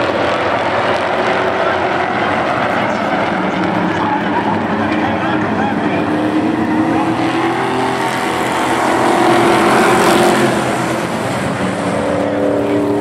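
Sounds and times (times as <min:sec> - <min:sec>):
race truck engines passing: 0:00.0 - 0:13.0.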